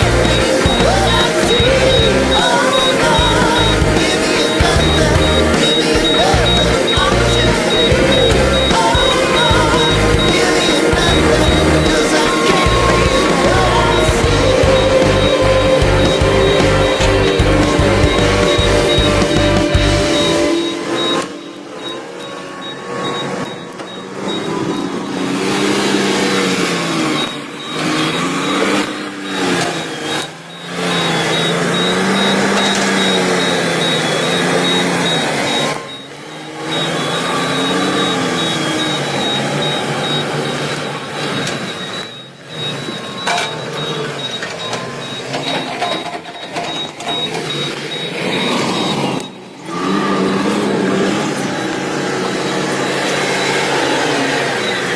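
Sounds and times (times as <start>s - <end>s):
excavator engine and hydraulics: 0.0s - 54.9s
rapid high-pitched pulsing tone: 0.0s - 54.9s.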